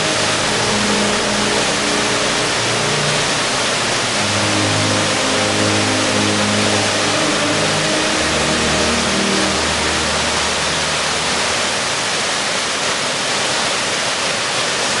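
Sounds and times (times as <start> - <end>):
low held notes: 0.0 - 12.2
waterfall rushing: 0.0 - 15.0.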